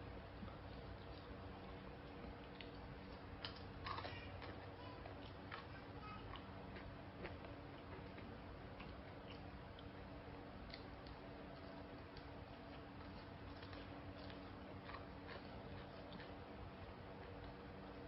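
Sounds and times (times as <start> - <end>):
chewing clicks: 0.2 - 18.0.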